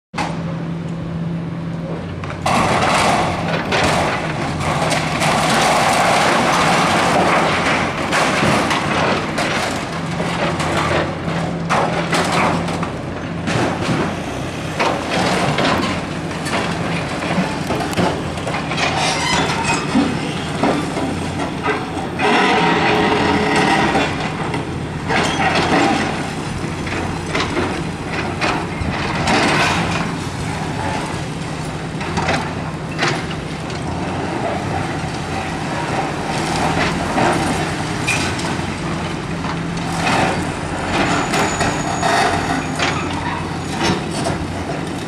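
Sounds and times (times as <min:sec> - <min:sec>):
excavator diesel engines running: 0:00.2 - 0:45.0
concrete cracking and crashing: 0:02.4 - 0:45.0.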